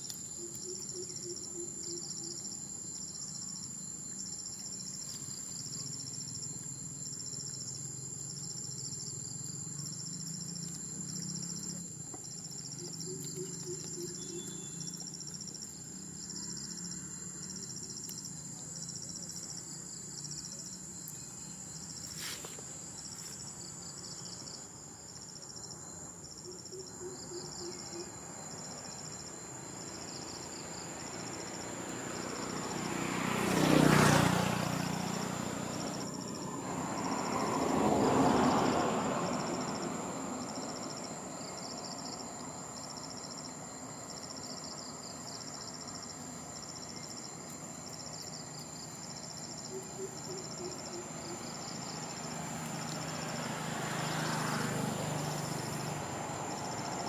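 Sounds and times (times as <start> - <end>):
crickets chirping: 0.0 - 57.0
high-pitched insect whine: 0.0 - 57.0.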